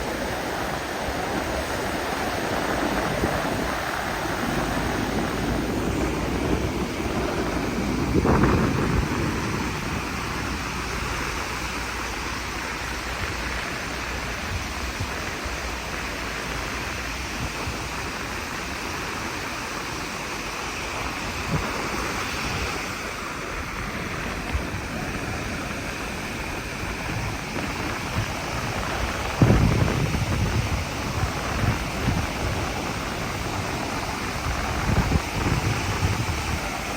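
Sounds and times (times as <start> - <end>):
sea washing at shore: 0.0 - 36.9
wind buffeting microphone: 0.0 - 36.9.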